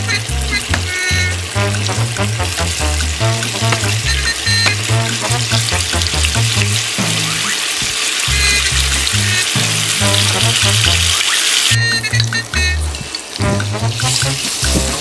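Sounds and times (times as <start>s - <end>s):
background music with bass line: 0.0s - 15.0s
tofu sizzling in a frying pan: 0.5s - 11.8s, 12.8s - 15.0s.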